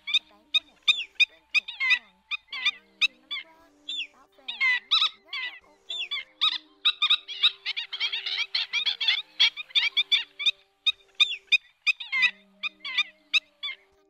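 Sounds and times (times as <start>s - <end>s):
birds yapping calls: 0.0s - 14.0s.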